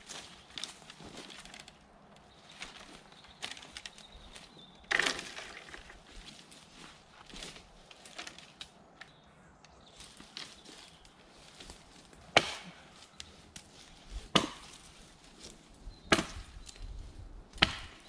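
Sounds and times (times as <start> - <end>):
branches breaking crunch: 0.0 - 18.0
dry twigs crackling and snapping: 0.0 - 18.0.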